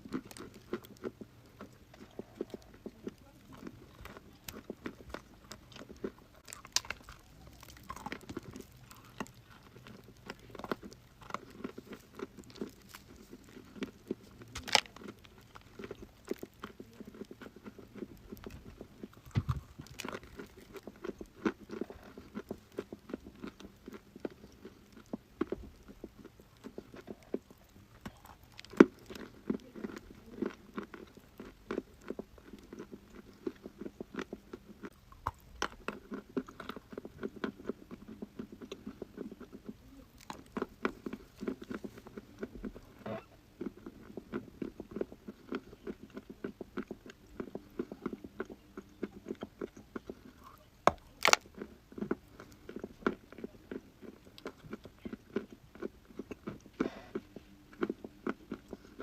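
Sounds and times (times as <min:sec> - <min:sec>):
chalk being bitten and chewed: 0:00.0 - 0:59.0.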